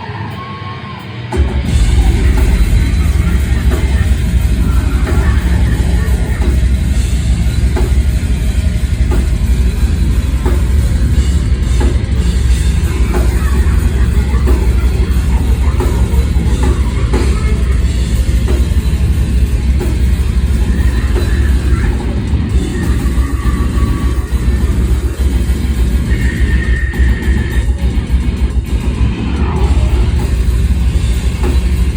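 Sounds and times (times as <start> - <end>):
heavy rock band music: 0.0 - 31.9.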